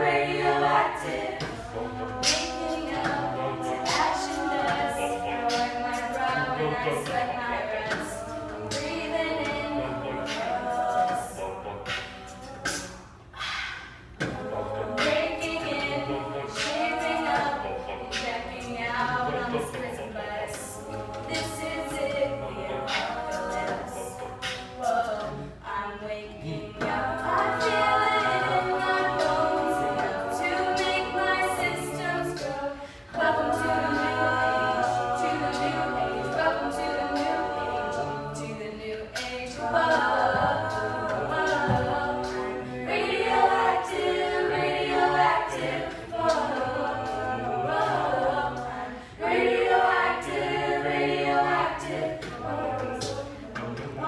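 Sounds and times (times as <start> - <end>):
a cappella group singing: 0.0 - 54.0.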